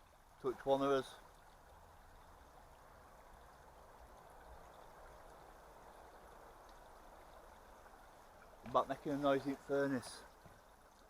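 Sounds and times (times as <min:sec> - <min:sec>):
flowing stream: 0:00.0 - 0:11.0.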